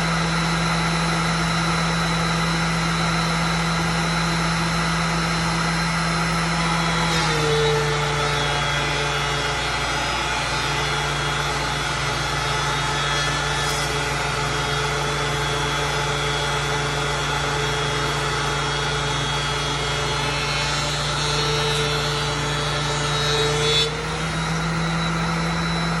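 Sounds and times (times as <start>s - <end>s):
planer cutting wood: 0.0s - 26.0s
planer humming: 0.0s - 26.0s.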